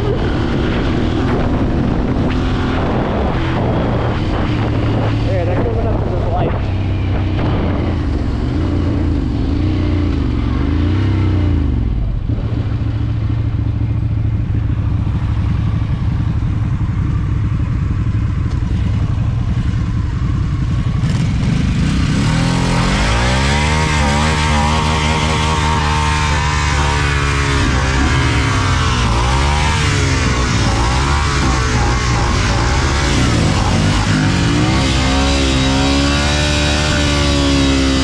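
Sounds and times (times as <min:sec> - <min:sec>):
motorcycle engine revving: 0:00.0 - 0:38.0
wind noise: 0:00.0 - 0:38.0.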